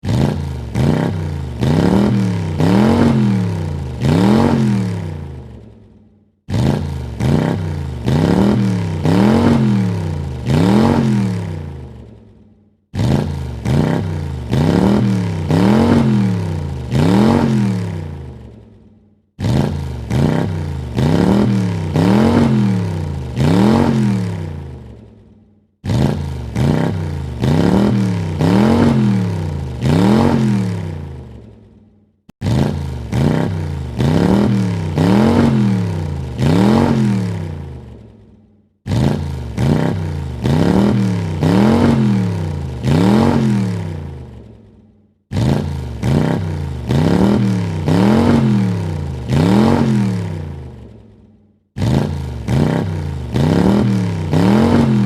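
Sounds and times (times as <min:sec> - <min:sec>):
car engine revving: 0:00.0 - 0:05.7, 0:06.5 - 0:12.3, 0:12.9 - 0:18.6, 0:19.4 - 0:25.1, 0:25.8 - 0:31.6, 0:32.4 - 0:38.1, 0:38.9 - 0:44.6, 0:45.3 - 0:51.0, 0:51.8 - 0:55.0.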